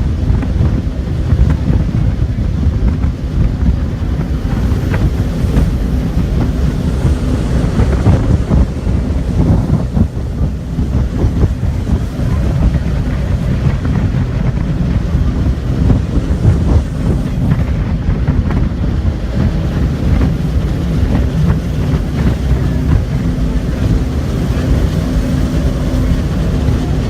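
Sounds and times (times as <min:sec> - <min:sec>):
boat engine running: 0:00.0 - 0:27.0
wind buffeting microphone: 0:00.0 - 0:27.0.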